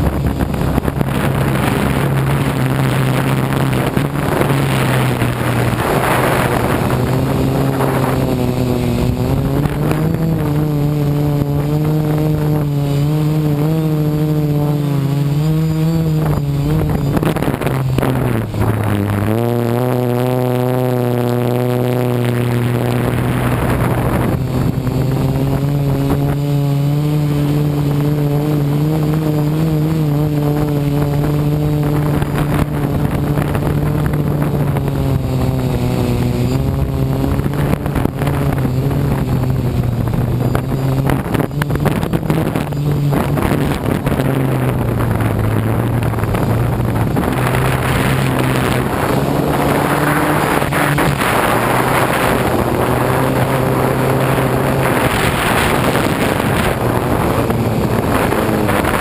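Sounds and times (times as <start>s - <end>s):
drone propellers humming: 0.0s - 59.0s
wind on microphone: 0.0s - 59.0s.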